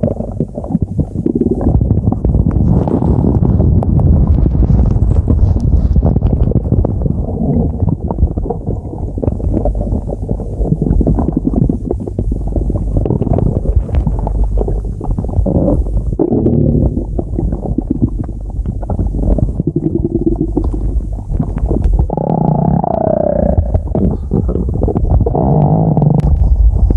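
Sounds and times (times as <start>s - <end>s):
stomach growling and gurgling: 0.0s - 26.9s.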